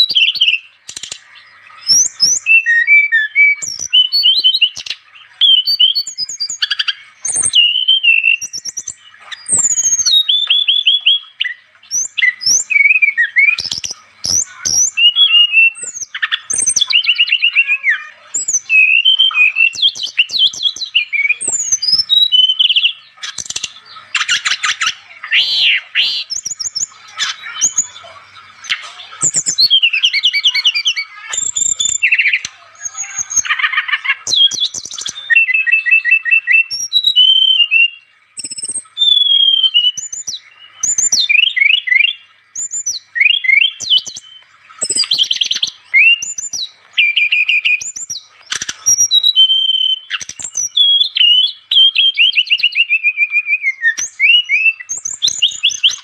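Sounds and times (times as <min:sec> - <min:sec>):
flycatcher singing: 0:00.0 - 0:56.0.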